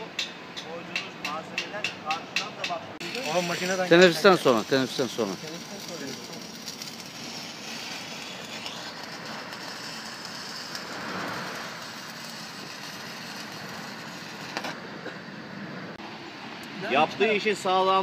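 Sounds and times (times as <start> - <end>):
welding arc hissing: 0.9 - 16.0.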